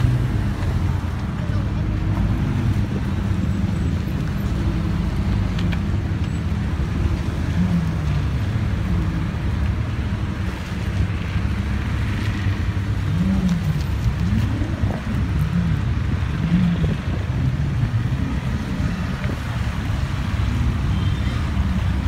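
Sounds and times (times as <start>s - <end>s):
car engines idling: 0.0s - 22.0s.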